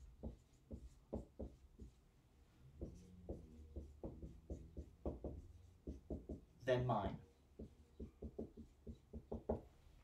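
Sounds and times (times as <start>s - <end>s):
marker writing on whiteboard: 0.0s - 9.8s.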